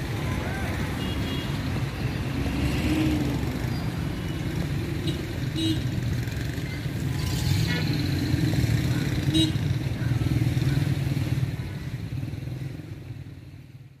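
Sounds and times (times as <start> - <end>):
traffic engine rumble: 0.0 - 14.0.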